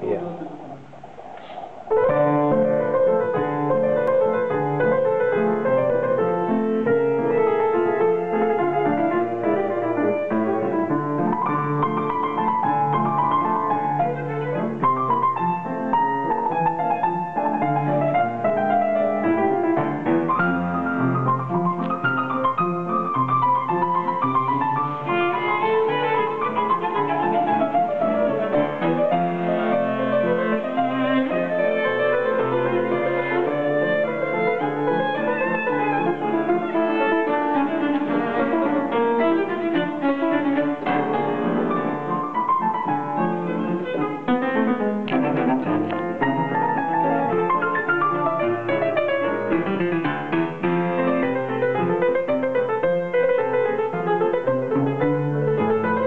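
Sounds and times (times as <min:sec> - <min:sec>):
grand piano: 0:00.0 - 0:56.0
cello playing: 0:01.9 - 0:56.0.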